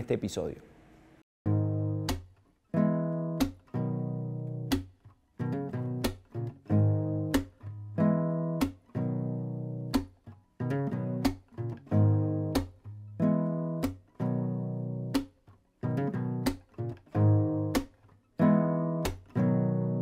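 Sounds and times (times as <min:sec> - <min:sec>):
strummed guitar chords: 0:01.5 - 0:20.0.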